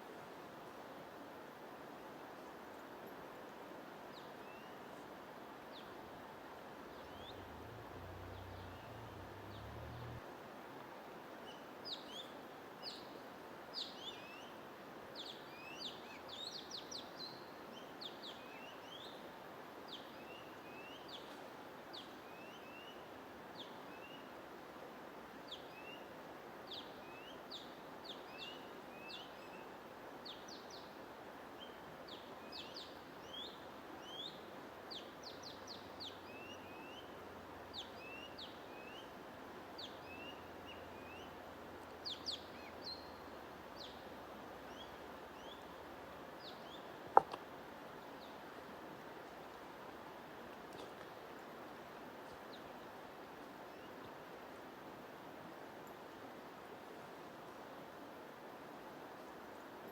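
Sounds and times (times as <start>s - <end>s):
white-noise hiss: 0.0s - 59.9s.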